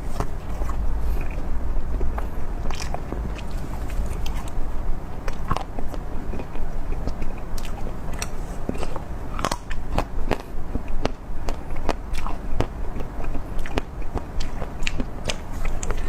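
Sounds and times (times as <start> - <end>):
crunchy chewing of food: 0.0 - 16.0.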